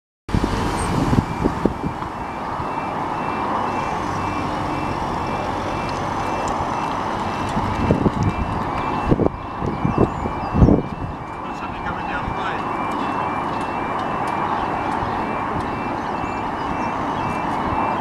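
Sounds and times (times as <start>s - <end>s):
road traffic hum: 0.3s - 18.0s
level crossing alarm tones: 0.7s - 18.0s.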